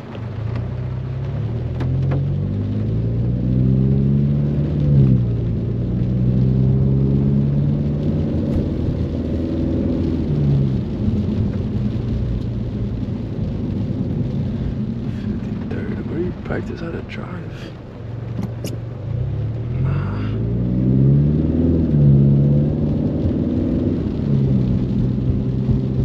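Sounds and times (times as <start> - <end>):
car engine running: 0.0 - 26.0
rain: 0.0 - 26.0.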